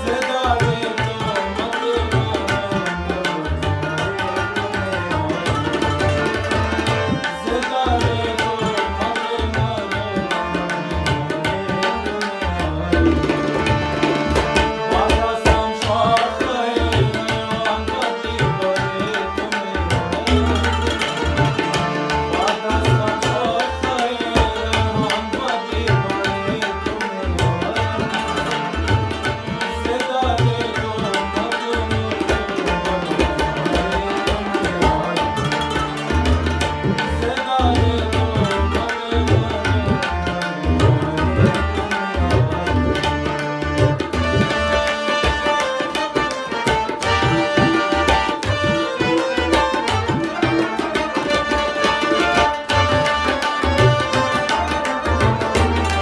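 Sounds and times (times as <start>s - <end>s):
harmonium playing: 0.0s - 56.0s
tabla drumming: 0.0s - 56.0s.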